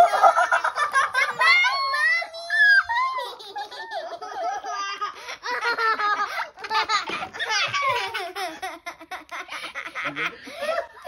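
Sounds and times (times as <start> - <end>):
girl giggling and squealing: 0.0 - 11.0.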